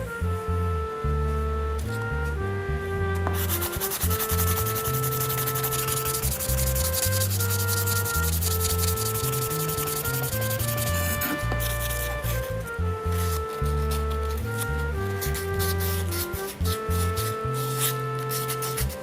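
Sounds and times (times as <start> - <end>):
background music with held melody: 0.0 - 19.0
abrasive rubbing like sanding: 3.2 - 19.0.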